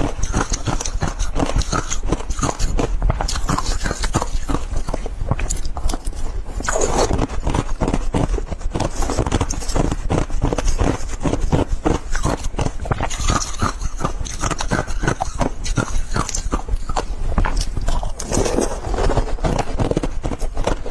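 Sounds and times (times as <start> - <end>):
ice being chewed: 0.0 - 20.9.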